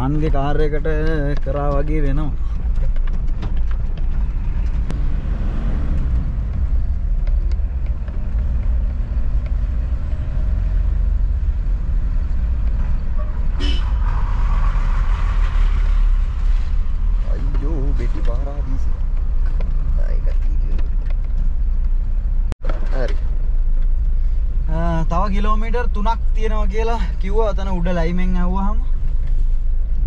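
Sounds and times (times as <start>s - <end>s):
engine and tyres rumbling: 0.0s - 30.0s.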